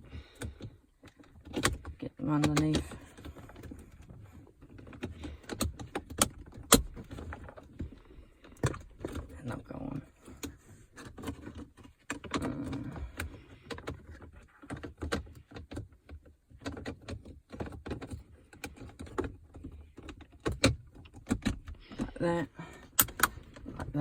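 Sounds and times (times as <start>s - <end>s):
plastic trim clicking and scraping: 0.3s - 9.3s, 10.2s - 22.2s.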